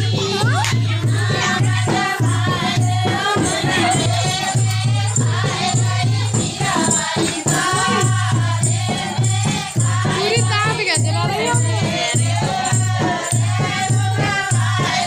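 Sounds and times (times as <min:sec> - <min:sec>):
rattling jingling percussion: 0:00.0 - 0:15.0
steady drum beat: 0:00.0 - 0:15.0
women singing together: 0:00.0 - 0:15.0.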